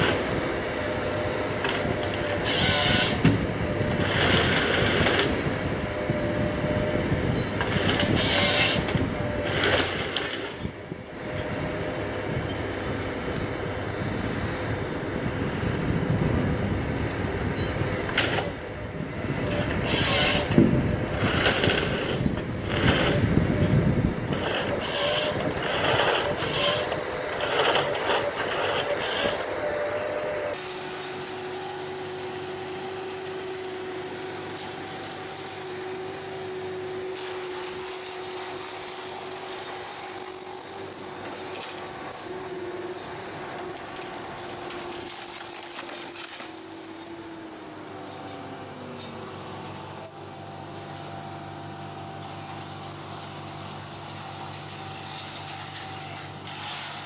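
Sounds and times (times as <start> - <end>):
excavator engine and hydraulics: 0.0 - 57.0
machine engine drone: 0.0 - 57.0.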